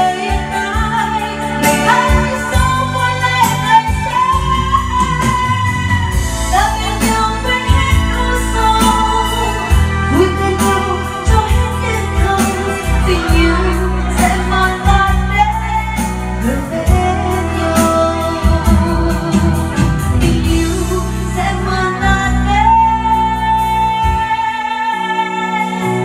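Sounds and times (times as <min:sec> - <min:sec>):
backing music with bass and beat: 0:00.0 - 0:24.6
woman singing into microphone: 0:00.0 - 0:26.0.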